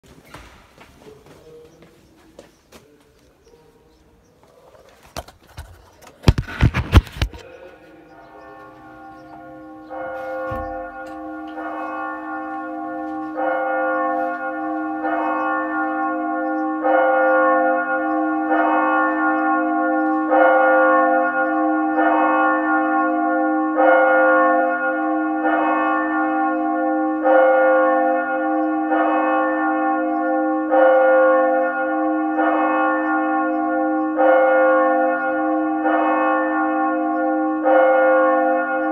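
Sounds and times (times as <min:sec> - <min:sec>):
church bell tolling: 0:05.6 - 0:38.9.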